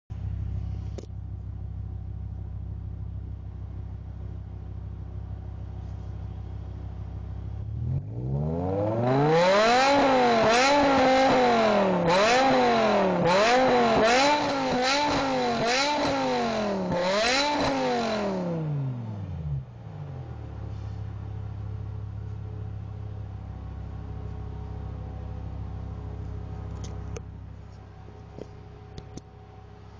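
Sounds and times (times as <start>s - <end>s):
car engine idling and revving: 0.1s - 29.9s.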